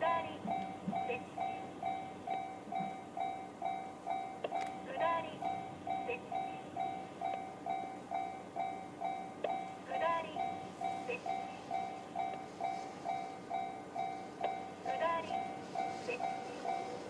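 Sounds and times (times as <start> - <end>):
level-crossing alarm bell: 0.0 - 17.0.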